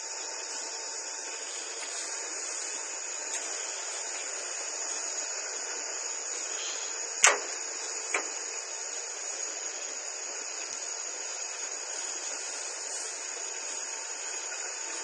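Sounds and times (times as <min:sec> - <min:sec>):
steady hiss: 0:00.0 - 0:15.0
thin high whine: 0:00.0 - 0:15.0.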